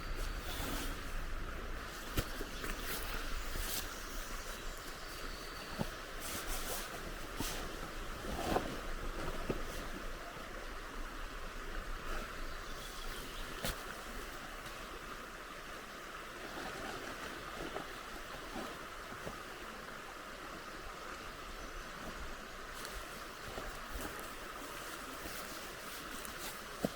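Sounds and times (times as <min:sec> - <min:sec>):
flowing river water: 0:00.0 - 0:26.9.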